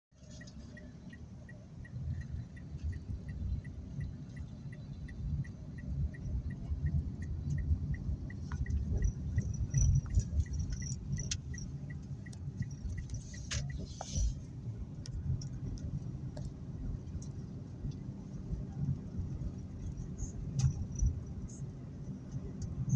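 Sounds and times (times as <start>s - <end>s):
car engine and tyres rumbling: 0.1s - 22.9s
turn signal ticking: 0.1s - 22.9s.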